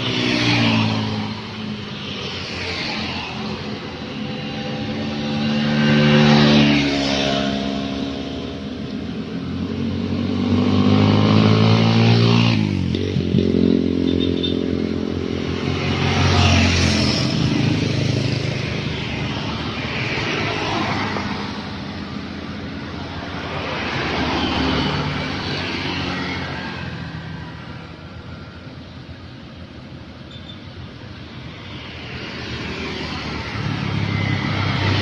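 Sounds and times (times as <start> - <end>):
car passing: 0.0 - 29.3, 31.2 - 35.0
motorcycle passing: 0.0 - 29.6, 31.1 - 35.0
road traffic passing: 0.0 - 35.0.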